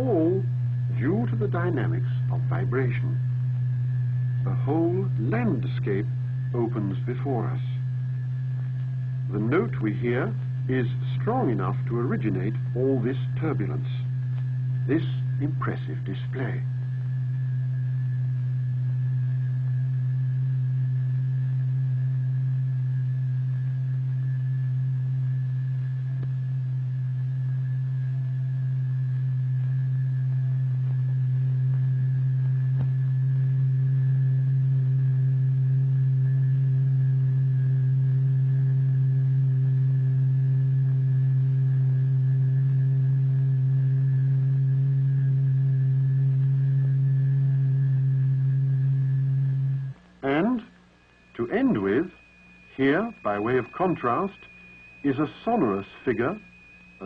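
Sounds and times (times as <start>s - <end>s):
low test tone: 0.0s - 57.0s.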